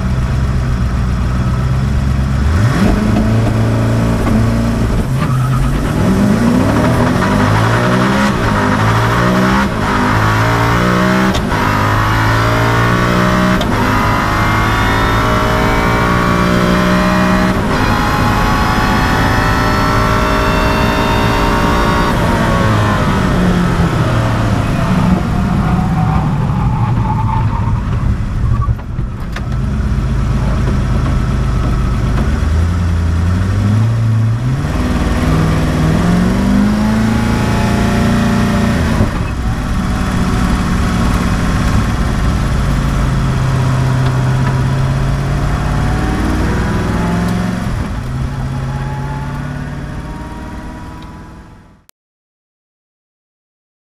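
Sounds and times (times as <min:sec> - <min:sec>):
car engine revving through gears: 0:00.0 - 0:51.9.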